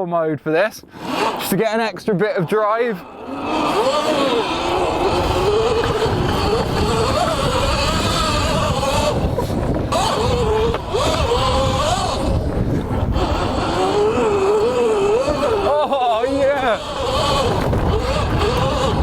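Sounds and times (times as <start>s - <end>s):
electric motor whining: 0.8s - 19.0s.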